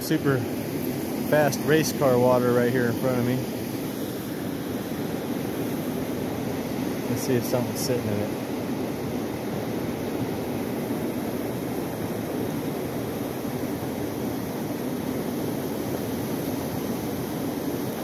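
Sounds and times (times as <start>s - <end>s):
fast river rushing: 0.0s - 18.0s.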